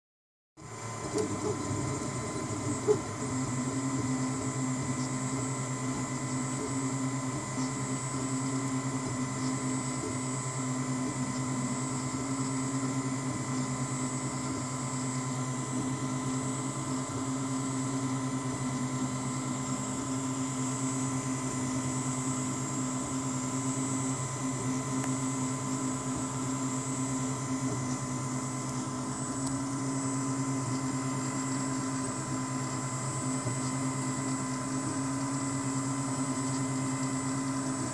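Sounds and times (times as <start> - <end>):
three d printer humming and whining: 0.6 - 37.9.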